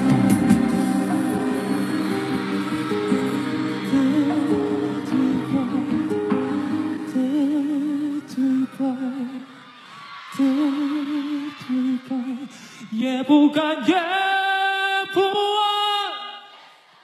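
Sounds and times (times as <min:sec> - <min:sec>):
man singing with wide vibrato: 0:00.0 - 0:16.7.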